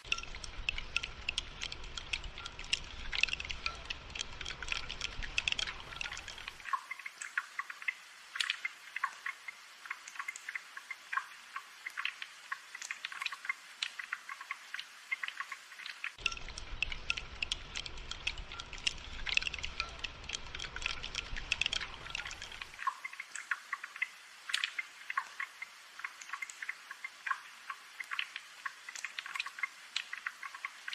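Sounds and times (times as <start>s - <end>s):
rain drips and taps: 0.0s - 30.9s.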